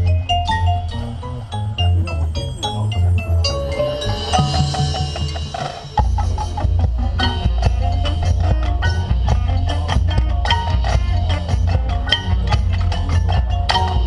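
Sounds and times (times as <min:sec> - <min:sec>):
mallet percussion and drums: 0:00.0 - 0:14.0
marching band playing: 0:00.0 - 0:14.0.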